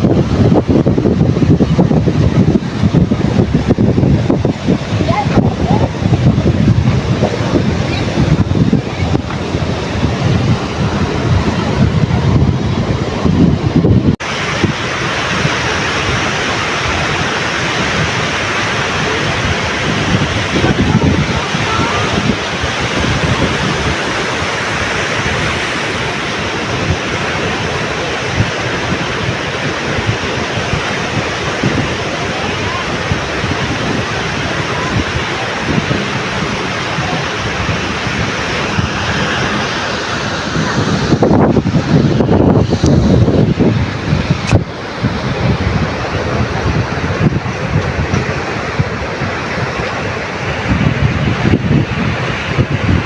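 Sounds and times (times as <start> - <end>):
waves breaking on a beach: 0.0 - 53.0
wind buffeting microphone: 0.0 - 53.0.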